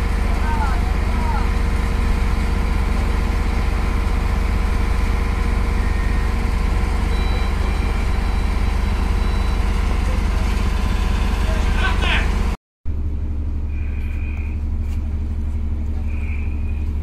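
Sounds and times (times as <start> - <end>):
ship engine machinery droning: 0.0 - 17.0.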